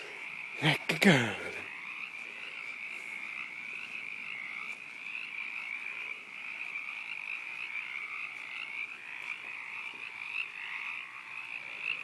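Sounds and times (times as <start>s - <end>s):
frogs croaking in chorus: 0.0s - 12.0s.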